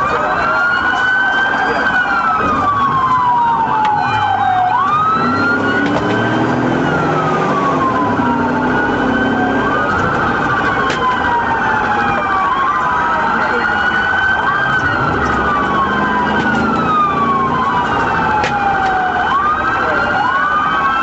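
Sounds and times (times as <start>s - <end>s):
police sirens wailing: 0.0s - 21.0s
road and engine noise: 0.0s - 21.0s.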